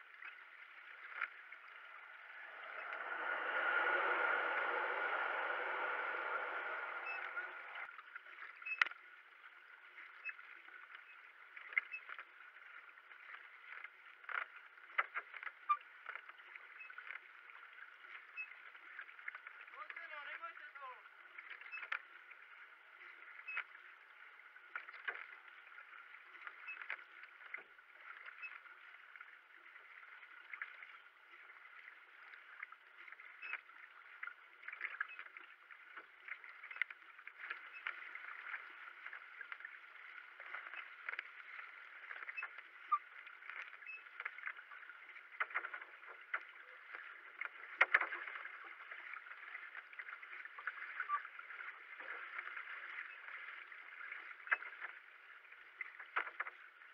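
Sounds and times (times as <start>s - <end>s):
paddle splashing: 0.0s - 56.9s
water along kayak hull: 0.0s - 56.9s.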